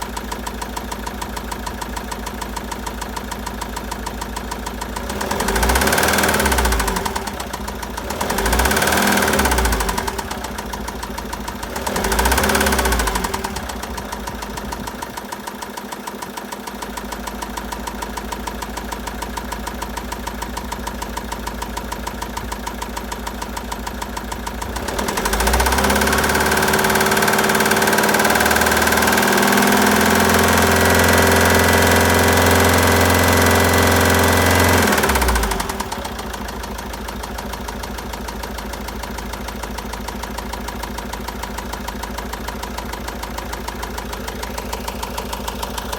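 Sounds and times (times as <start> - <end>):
diesel engine idling and revving: 0.0 - 45.9.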